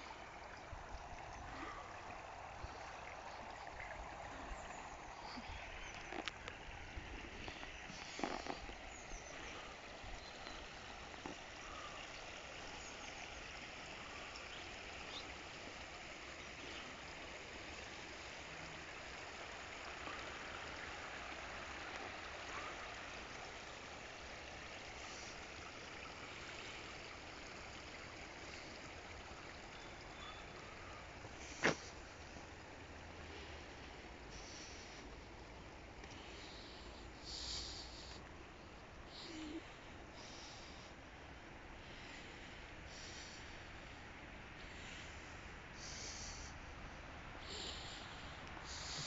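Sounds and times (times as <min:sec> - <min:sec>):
running water hissing: 0:00.0 - 0:41.0, 0:41.8 - 0:44.0, 0:44.6 - 0:49.0.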